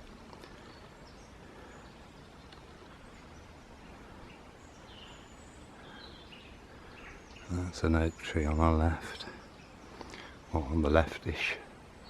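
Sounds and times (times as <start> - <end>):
soft background hiss: 0.0 - 12.0.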